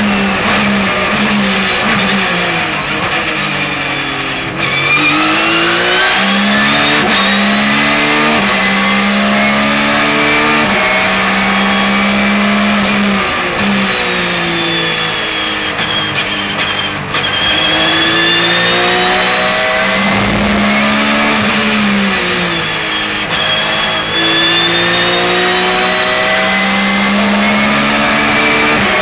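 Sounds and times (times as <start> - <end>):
racing car engine revving: 0.0 - 29.0.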